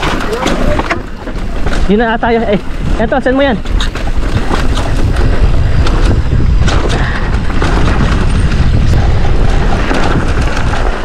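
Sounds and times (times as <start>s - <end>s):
bike rattling: 0.0s - 11.0s
wind rumbling on microphone: 0.0s - 11.0s.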